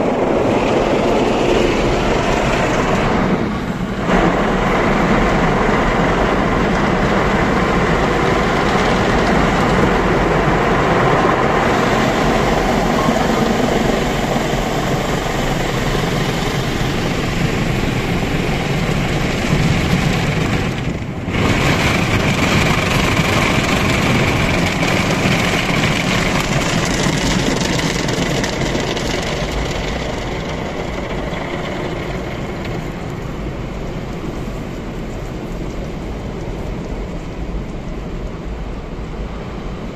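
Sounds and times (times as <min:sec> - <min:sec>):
rotating brushes pounding: 0:00.0 - 0:34.8
water jets spraying: 0:00.0 - 0:36.6
car wash machinery rumbling: 0:00.0 - 0:39.9.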